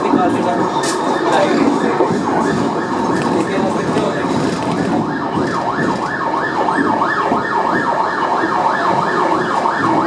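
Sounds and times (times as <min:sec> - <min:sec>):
siren yelping: 0:00.0 - 0:10.0
street noise: 0:00.0 - 0:10.0.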